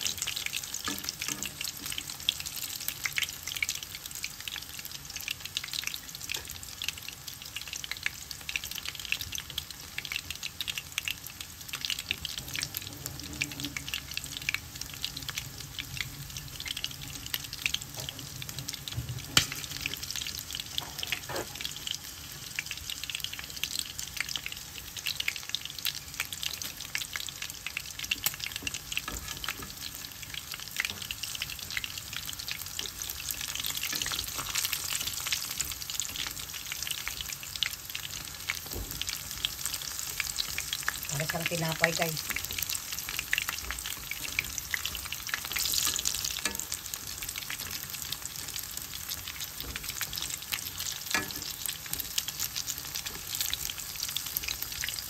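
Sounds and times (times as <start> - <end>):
deep-frying sizzle with pops: 0.0 - 55.0.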